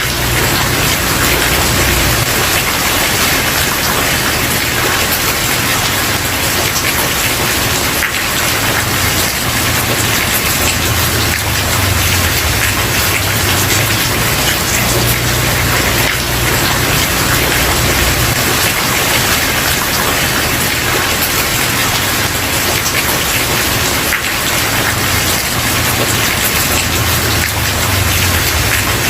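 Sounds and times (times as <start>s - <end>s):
rain on a wooden porch: 0.0s - 29.0s.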